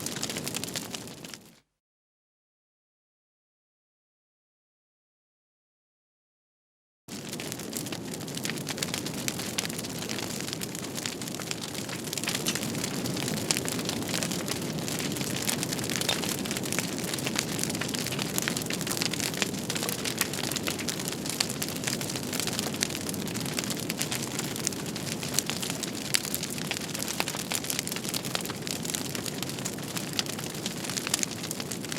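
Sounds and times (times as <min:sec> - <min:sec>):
fire crackling and popping: 0:00.0 - 0:01.6, 0:07.1 - 0:31.9.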